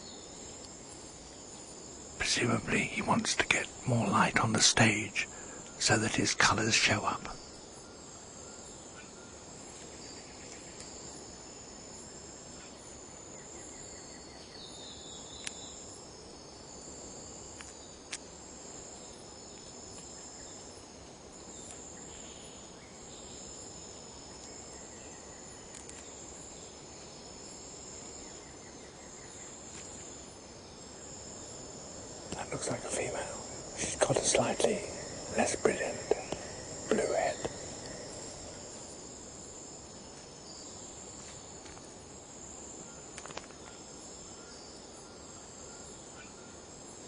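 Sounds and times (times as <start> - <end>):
insect chorus trilling: 0.0 - 47.0.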